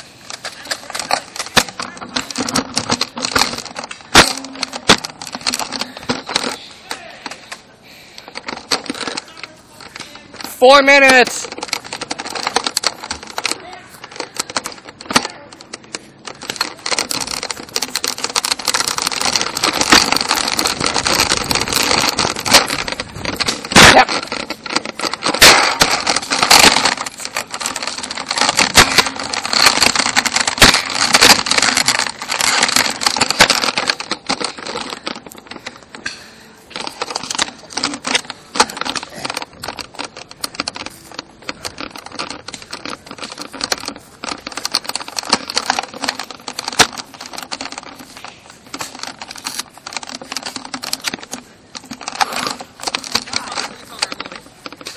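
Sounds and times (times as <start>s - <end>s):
plastic clicks and rattles: 0.0s - 7.6s, 8.2s - 54.9s.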